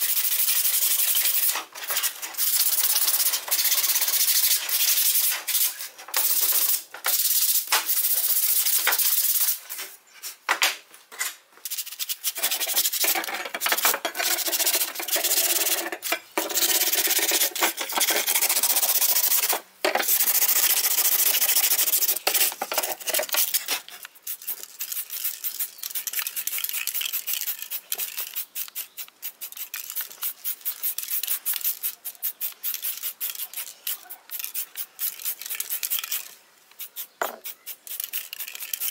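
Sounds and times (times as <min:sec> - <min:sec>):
sandpaper scratching wood and metal: 0:00.0 - 0:09.8, 0:11.7 - 0:38.9.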